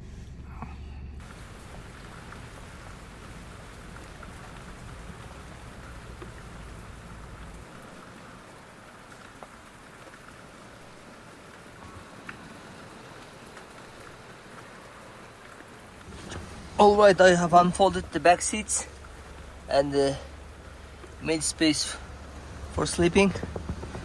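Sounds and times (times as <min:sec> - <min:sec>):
low hum: 0:00.0 - 0:24.0
raindrops ticking: 0:01.2 - 0:24.0
steady rain falling: 0:01.2 - 0:24.0.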